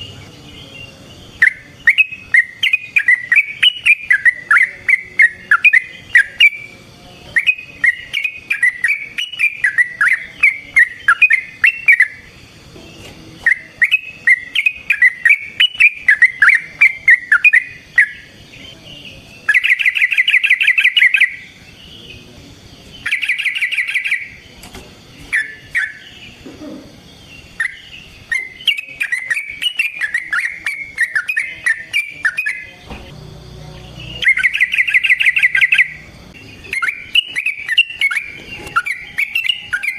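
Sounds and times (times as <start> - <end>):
bird warbling song: 0.0 - 39.9
bird rapid trills: 1.3 - 12.6, 13.4 - 18.7, 19.3 - 24.5, 27.4 - 32.8, 33.8 - 39.9.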